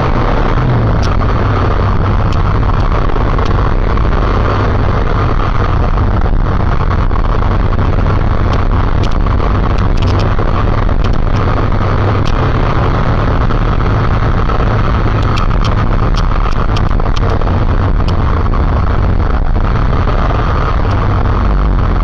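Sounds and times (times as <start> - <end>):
motorcycle engine at speed: 0.0 - 22.0
wind rushing: 0.0 - 22.0.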